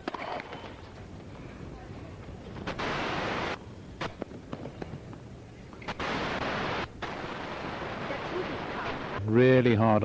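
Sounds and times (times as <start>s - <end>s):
loud static hiss: 0.8s - 10.0s.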